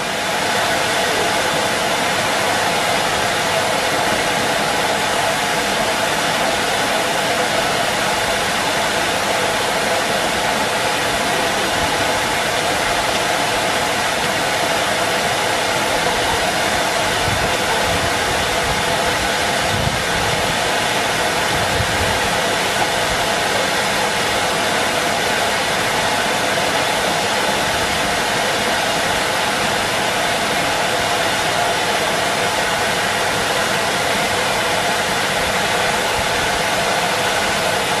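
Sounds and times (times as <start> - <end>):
vacuum cleaner running: 0.0 - 38.0.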